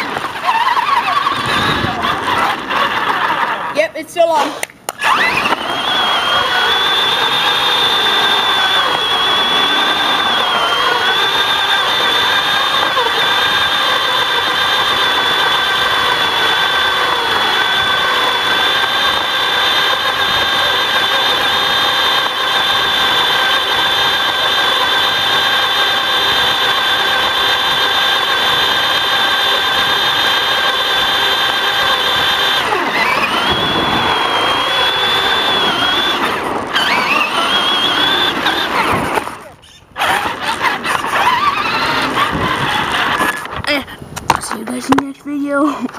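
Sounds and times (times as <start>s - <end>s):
electric motor whining: 0.0s - 44.6s.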